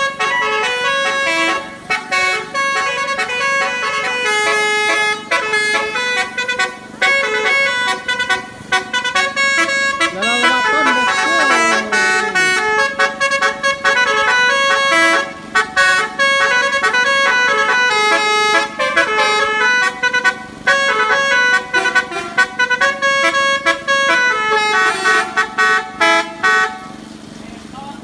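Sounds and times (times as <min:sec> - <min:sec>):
musical bus horn playing melody: 0:00.0 - 0:27.1.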